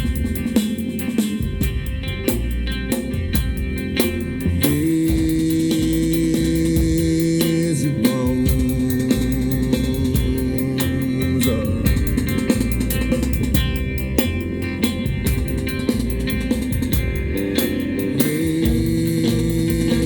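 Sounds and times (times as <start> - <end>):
bass and guitar: 0.0 - 20.0
drums steady beat: 0.0 - 20.0.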